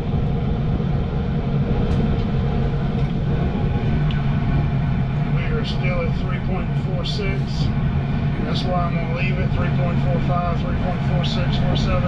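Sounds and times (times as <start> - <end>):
gas furnace roaring: 0.0 - 12.0.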